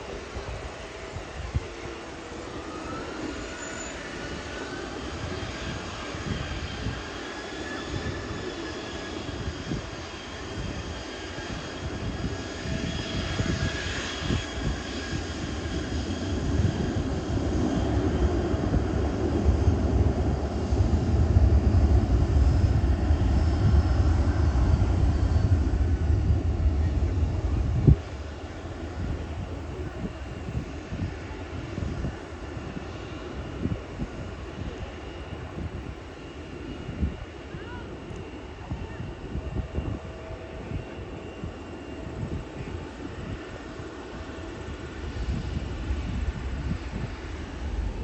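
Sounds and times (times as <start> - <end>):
jet airliner flying overhead: 0.0 - 48.0.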